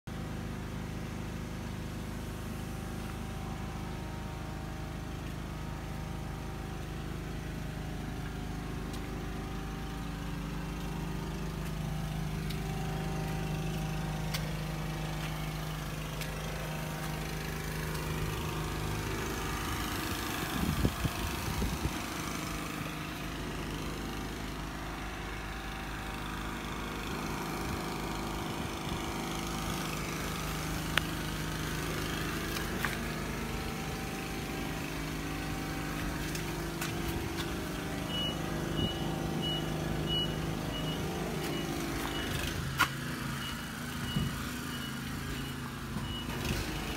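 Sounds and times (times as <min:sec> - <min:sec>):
engine humming steadily: 0:00.1 - 0:46.9.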